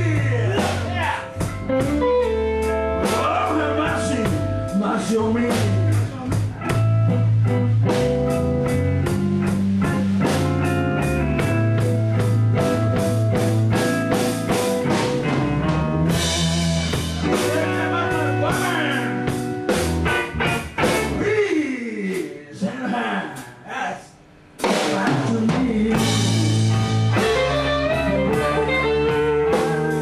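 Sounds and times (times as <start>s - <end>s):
electric guitars: 0.0s - 21.4s, 24.7s - 30.0s
bass guitar: 0.0s - 21.6s, 24.6s - 30.0s
drum kit beat: 0.0s - 22.4s, 24.4s - 30.0s.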